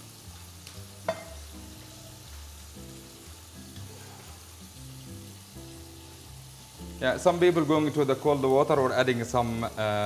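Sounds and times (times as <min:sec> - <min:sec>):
oil sizzling in a pan: 0:00.0 - 0:10.0
soft background music: 0:00.0 - 0:10.0.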